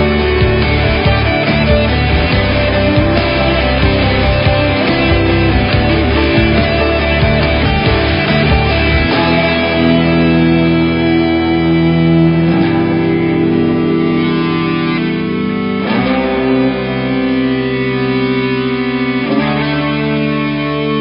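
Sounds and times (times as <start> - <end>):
electric guitar background music: 0.0 - 21.0.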